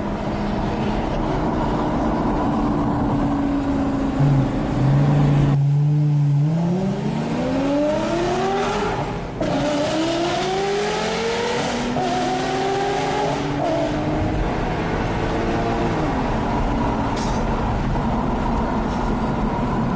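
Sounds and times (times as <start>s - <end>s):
sports car engine accelerating: 0.0s - 17.2s.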